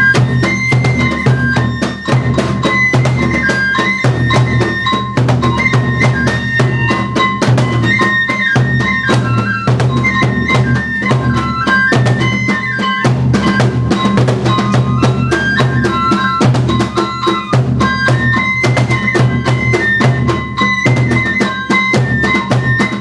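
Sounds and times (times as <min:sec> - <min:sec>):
bamboo flute melody: 0:00.0 - 0:23.0
rapid taiko drum strokes: 0:00.0 - 0:23.0.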